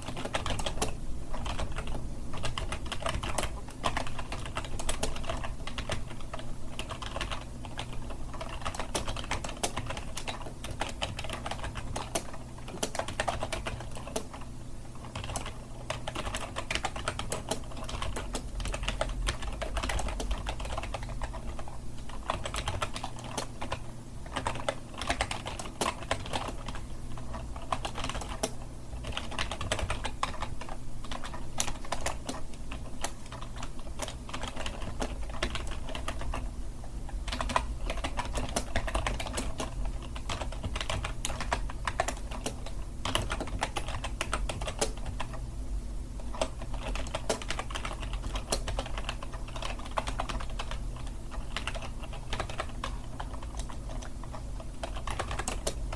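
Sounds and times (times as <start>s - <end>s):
typing on computer keyboard: 0.0s - 36.4s, 37.2s - 45.4s, 46.2s - 55.9s
faint low hum: 0.0s - 55.9s.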